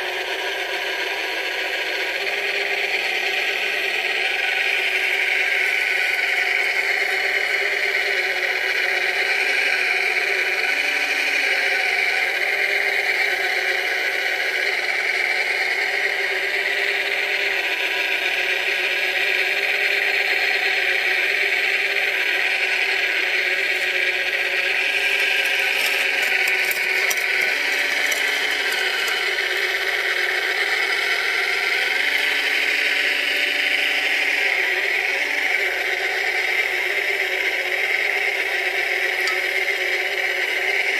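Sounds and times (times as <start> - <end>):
toy loader motor whining: 0.0 - 40.9.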